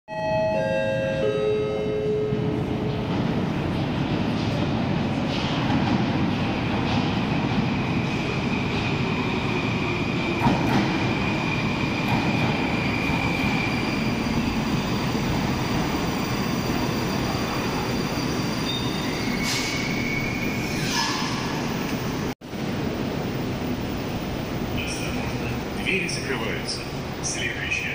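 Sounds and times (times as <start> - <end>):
subway train rumbling: 0.1 - 27.9.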